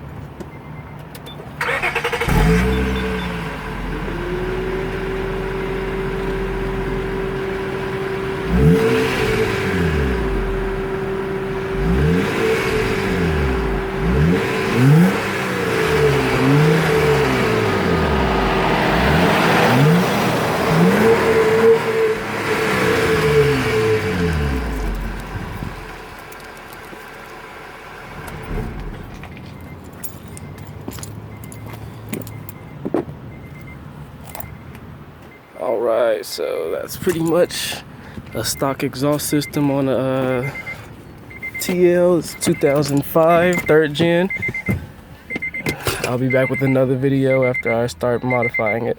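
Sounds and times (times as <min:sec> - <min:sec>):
car engine idling and revving: 0:00.0 - 0:35.5, 0:36.6 - 0:48.8.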